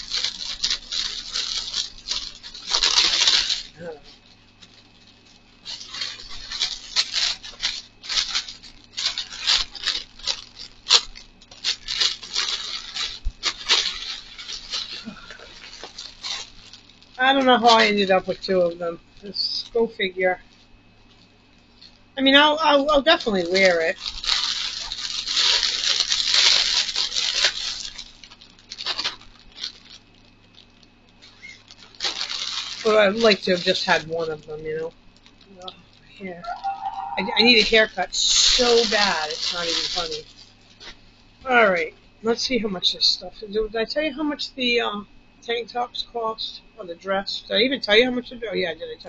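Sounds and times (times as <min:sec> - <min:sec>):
plastic packaging crinkling: 0:00.0 - 0:43.5.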